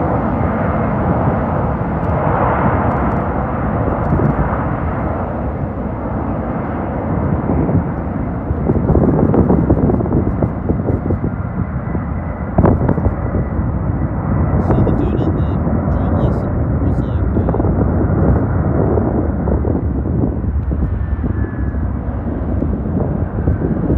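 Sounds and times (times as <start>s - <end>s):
jet engines rumbling: 0.0s - 23.9s.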